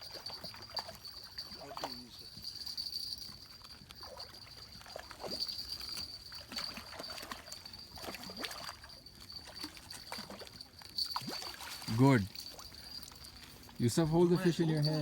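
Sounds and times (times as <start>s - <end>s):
water trickling and sloshing: 0.0s - 15.0s.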